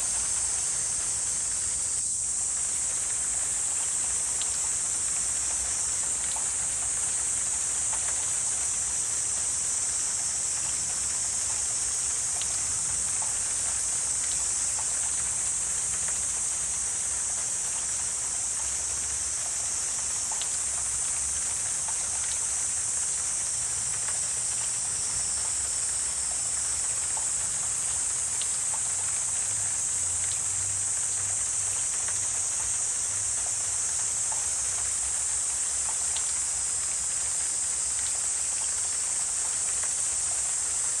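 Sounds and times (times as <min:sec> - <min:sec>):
faint scattered ticks: 0:00.0 - 0:41.0
high-pitched insect chorus: 0:00.0 - 0:41.0.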